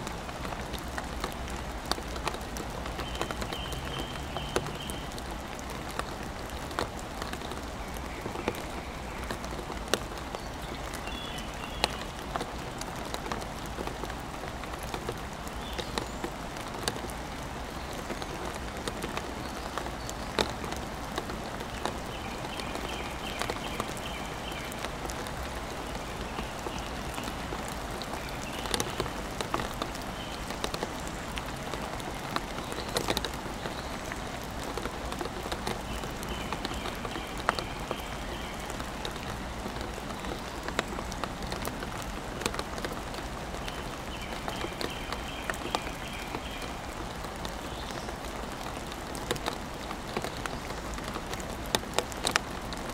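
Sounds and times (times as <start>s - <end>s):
raindrops ticking close by: 0.0s - 52.9s
steady rain hiss: 0.0s - 52.9s.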